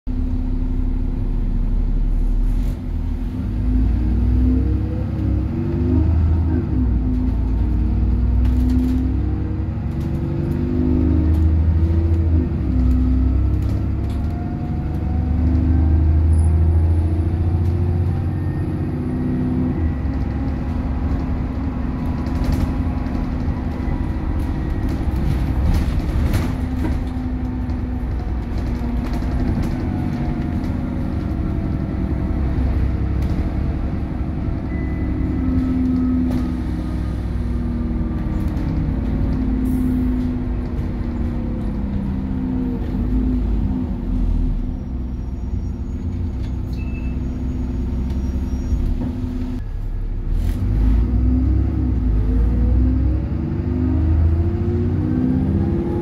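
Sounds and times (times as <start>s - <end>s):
bus diesel engine: 0.1s - 56.0s.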